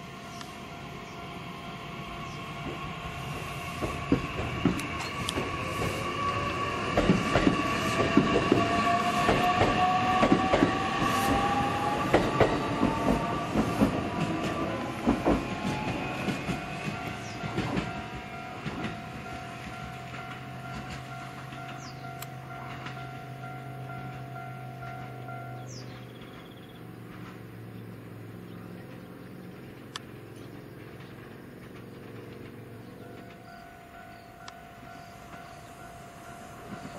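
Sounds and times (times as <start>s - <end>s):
train wheels clacking over rails: 0.0s - 27.6s, 28.4s - 36.9s.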